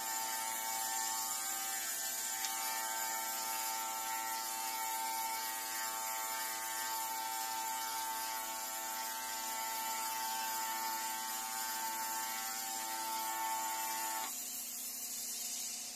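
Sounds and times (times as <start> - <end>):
spray gun motor whine and hiss: 0.0 - 15.9.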